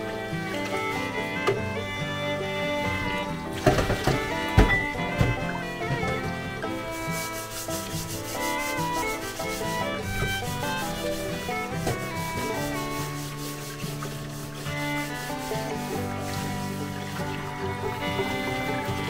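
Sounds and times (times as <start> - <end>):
background music: 0.0 - 19.0
octopus being scrubbed: 3.1 - 19.0.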